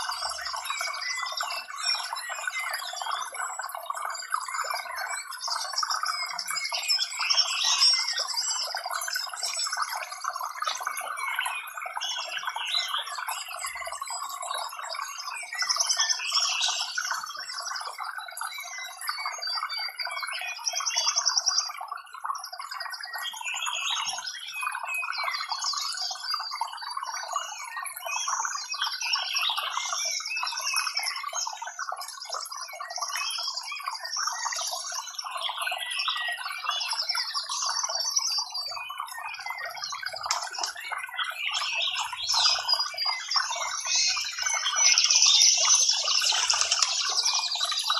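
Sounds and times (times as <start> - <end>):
birds chirping in chorus: 0.0 - 47.9.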